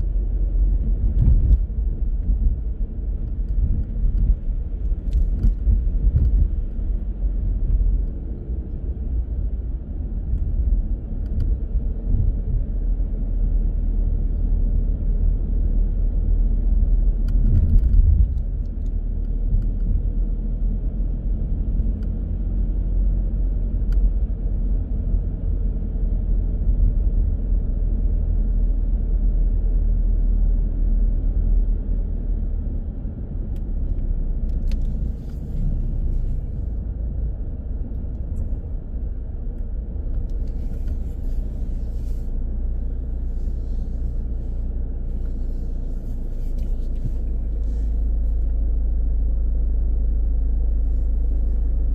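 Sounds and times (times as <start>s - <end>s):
car driving rumble: 0.0s - 51.9s.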